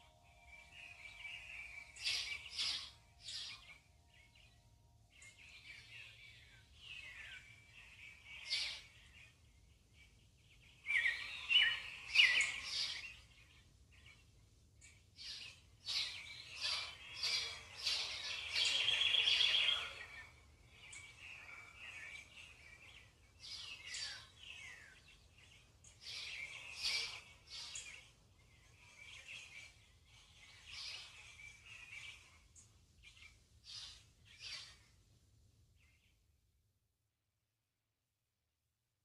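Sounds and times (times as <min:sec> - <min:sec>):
birds singing: 0:00.0 - 0:35.1.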